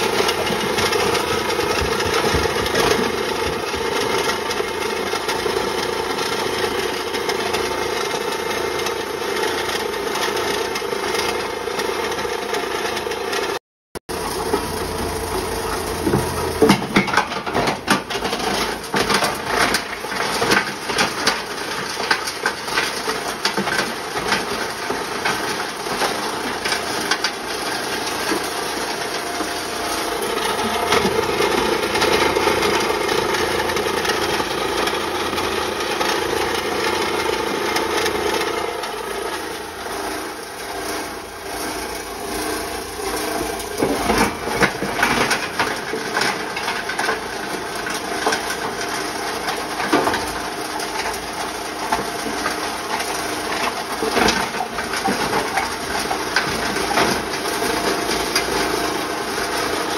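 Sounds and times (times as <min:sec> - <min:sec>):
grinder humming: 0:00.0 - 0:59.9.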